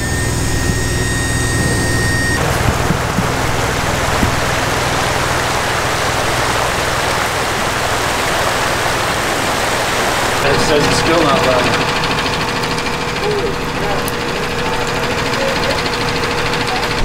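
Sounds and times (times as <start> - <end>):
steady hiss of water: 0.0 - 17.0
vehicle engine running: 0.0 - 17.0.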